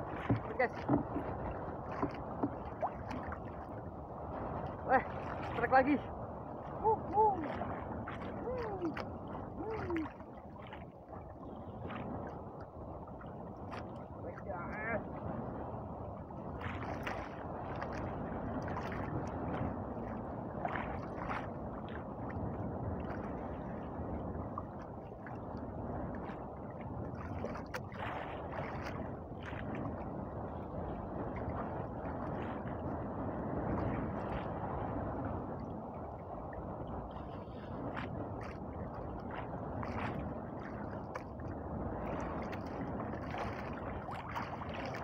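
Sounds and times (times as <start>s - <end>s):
water lapping against boat hull: 0.0s - 45.0s.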